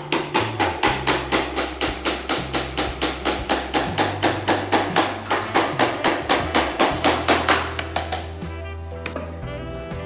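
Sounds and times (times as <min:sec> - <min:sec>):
hammer striking nail into wood: 0:00.0 - 0:08.3.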